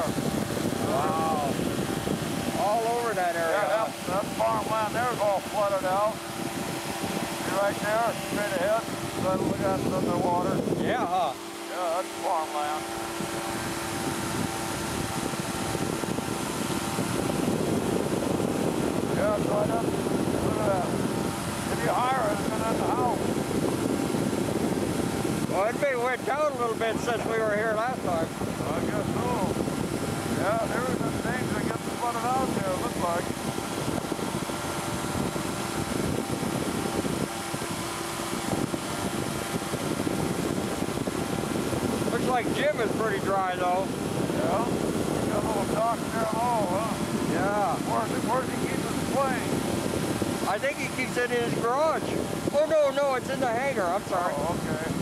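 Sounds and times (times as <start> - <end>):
engine and propeller droning: 0.0 - 55.0
wind rush: 0.0 - 55.0.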